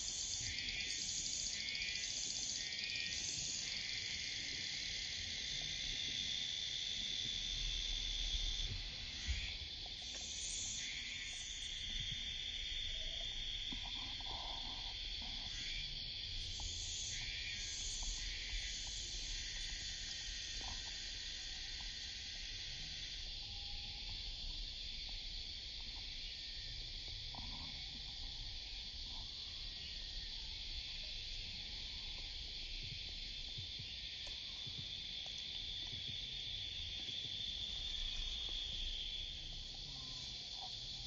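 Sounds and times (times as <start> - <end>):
cicadas buzzing: 0.0 - 41.0.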